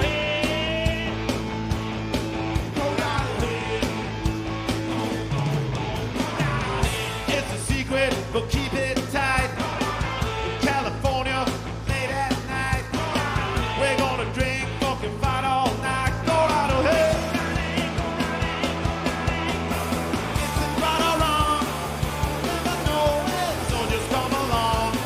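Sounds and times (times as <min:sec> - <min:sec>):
person singing: 0:00.0 - 0:01.3, 0:02.7 - 0:04.1, 0:06.1 - 0:19.6, 0:20.4 - 0:25.0
rock band playing live: 0:00.0 - 0:25.0.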